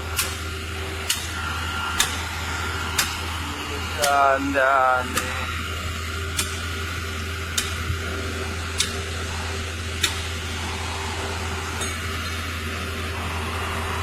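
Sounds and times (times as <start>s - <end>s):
pump truck engine drone: 0.0s - 14.0s.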